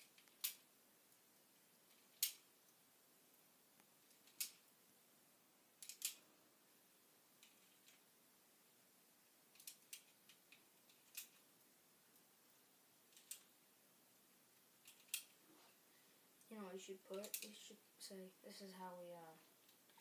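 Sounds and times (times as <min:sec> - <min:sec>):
faint hiss: 0:00.0 - 0:20.0.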